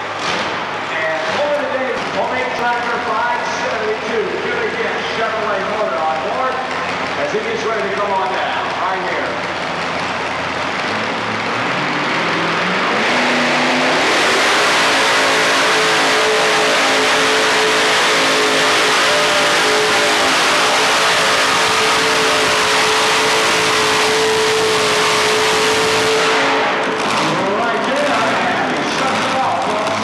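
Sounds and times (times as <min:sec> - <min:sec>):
tractor engine revving: 0:00.0 - 0:30.0.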